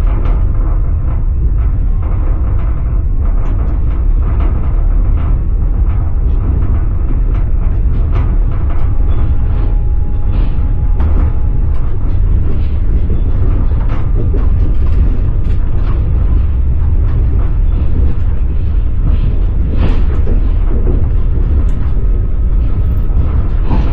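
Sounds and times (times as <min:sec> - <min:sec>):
train carriage rumble: 0:00.0 - 0:23.9.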